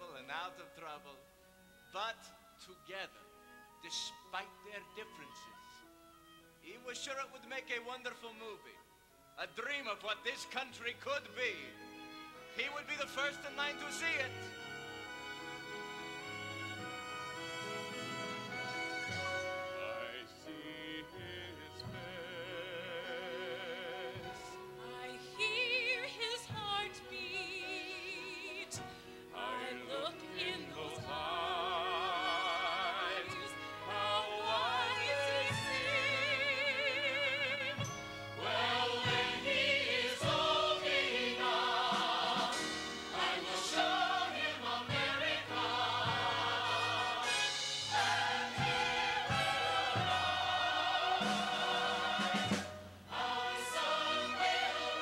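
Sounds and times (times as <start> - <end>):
orchestra: 0.0 - 55.0.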